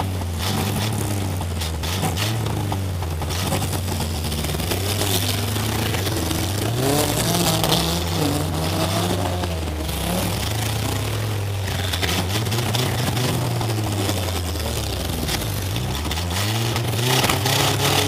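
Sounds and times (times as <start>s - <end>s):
car engine running and revving: 0.0s - 18.0s.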